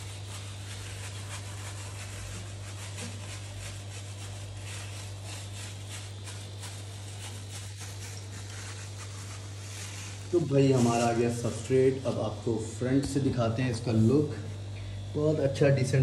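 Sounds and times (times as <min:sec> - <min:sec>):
hand rustling wood shavings: 0:00.0 - 0:12.9
steady low hum: 0:00.0 - 0:16.0.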